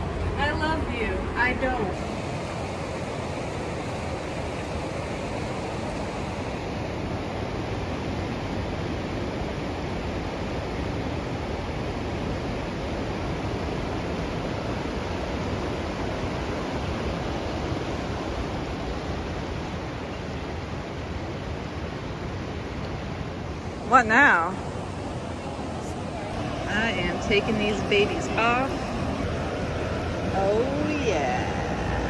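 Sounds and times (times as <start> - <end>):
river rushing: 0.0 - 32.0.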